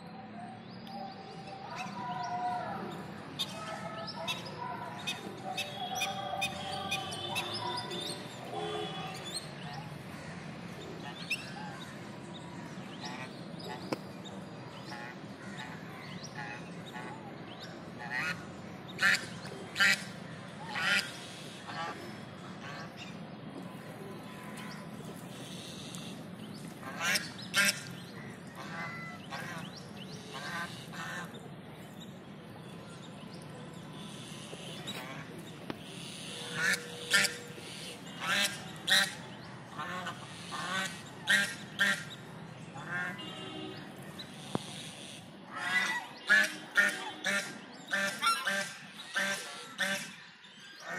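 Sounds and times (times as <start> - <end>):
birds chirping: 0.8 - 50.9.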